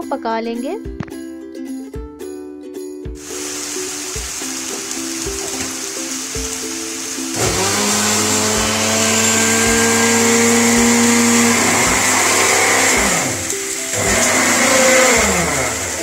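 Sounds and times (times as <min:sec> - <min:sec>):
background music with beat: 0:00.8 - 0:16.0
chicken sizzling in hot oil: 0:03.2 - 0:16.0.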